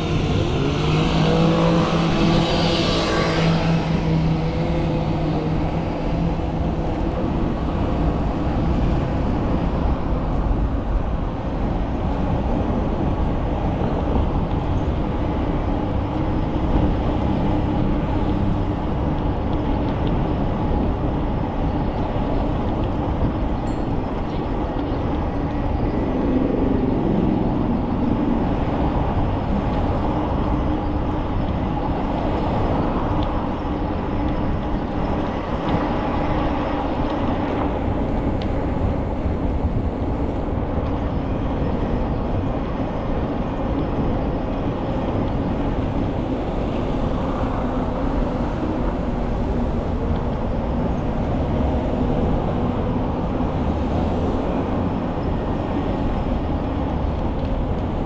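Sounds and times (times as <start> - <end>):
bicycle tyres humming on path: 0.0 - 58.0
wind rumble on microphone: 0.0 - 58.0.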